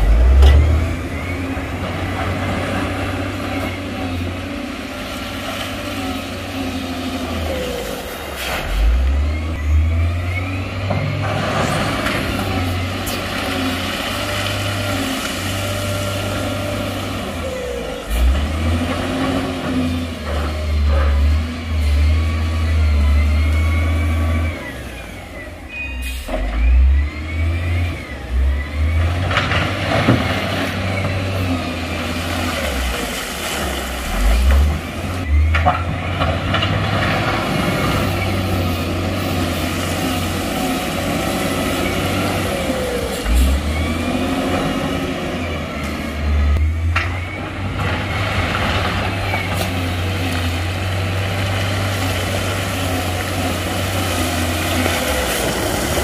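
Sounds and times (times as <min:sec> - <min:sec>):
heavy diesel engine revving: 0:00.0 - 0:56.0.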